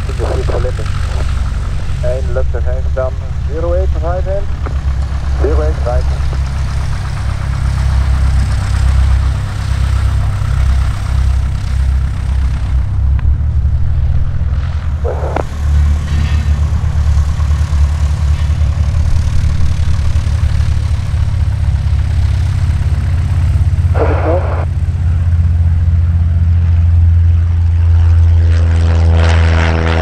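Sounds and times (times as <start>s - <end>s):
light aircraft engine droning: 0.0s - 30.0s.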